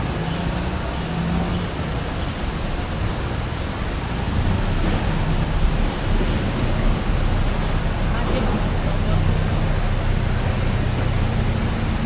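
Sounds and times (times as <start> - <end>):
low engine rumble: 0.0 - 12.0
road traffic noise: 0.0 - 12.0.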